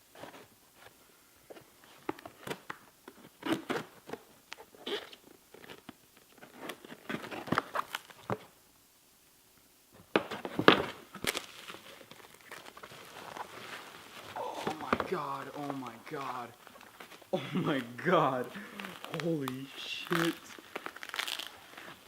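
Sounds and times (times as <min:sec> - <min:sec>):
packaging ripping and rustling: 0:02.2 - 0:08.5, 0:10.2 - 0:22.0.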